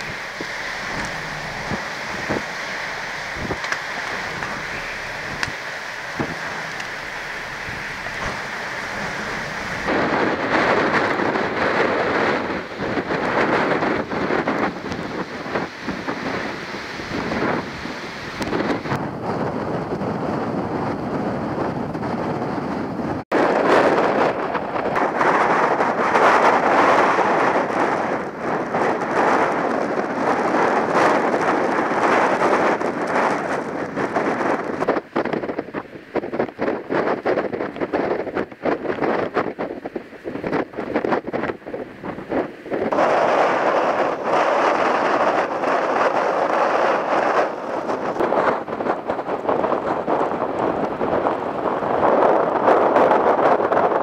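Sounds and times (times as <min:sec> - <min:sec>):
stormy sea: 0:00.0 - 0:54.0
surf churning against rock: 0:00.0 - 0:54.0
wind rushing: 0:00.0 - 0:54.0.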